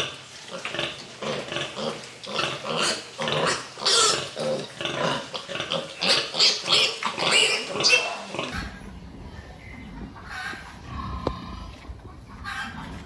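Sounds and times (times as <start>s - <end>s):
pigs grunting and squealing: 0.0s - 13.0s.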